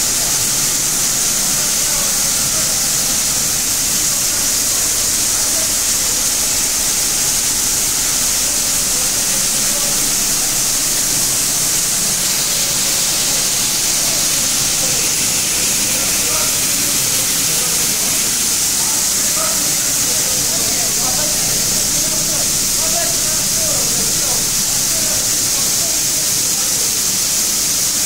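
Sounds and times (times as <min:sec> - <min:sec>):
grain cleaner high hiss: 0:00.0 - 0:28.0.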